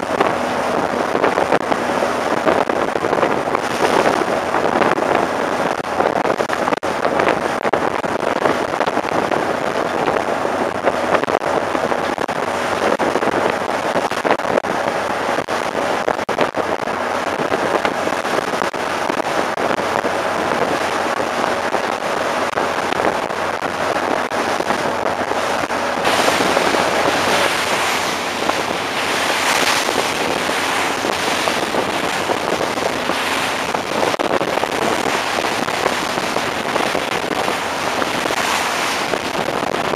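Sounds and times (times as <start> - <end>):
bow wave splashing along hull: 0.0 - 39.9
wind buffeting microphone: 0.0 - 39.9.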